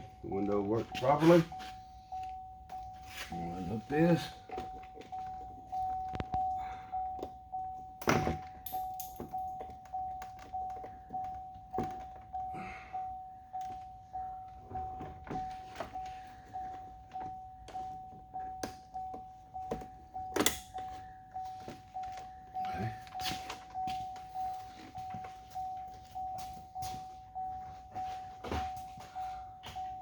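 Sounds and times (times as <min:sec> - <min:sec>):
vehicle warning chime: 0:00.0 - 0:30.0.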